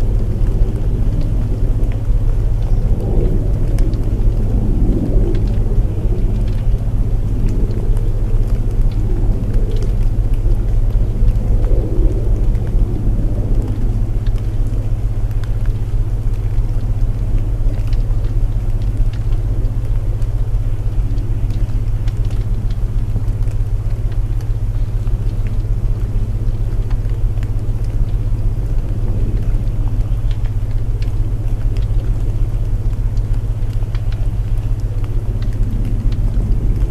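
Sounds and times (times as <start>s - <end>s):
burning wood crackle: 0.0s - 36.9s
rain hiss: 0.0s - 36.9s.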